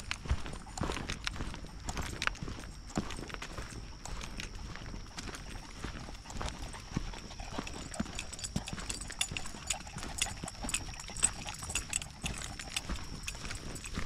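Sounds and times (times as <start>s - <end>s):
footsteps on muddy trail: 0.0s - 14.0s.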